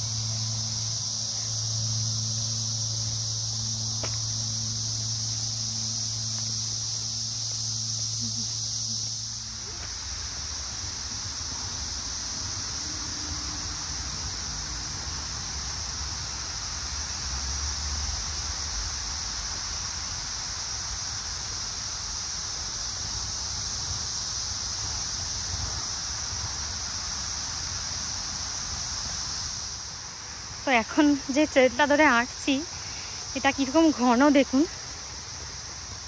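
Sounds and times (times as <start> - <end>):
insects chirring chorus: 0.0 - 36.0.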